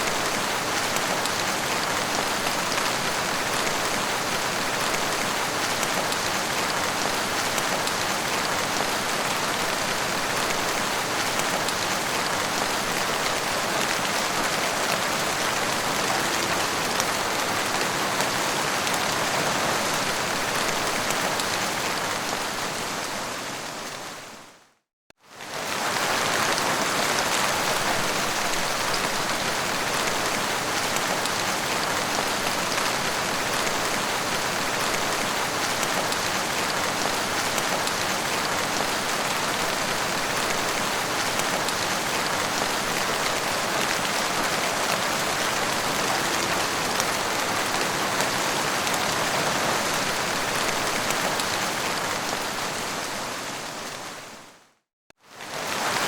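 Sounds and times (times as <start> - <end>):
heavy rain falling: 0.0 - 24.4, 25.3 - 54.6, 55.3 - 56.0.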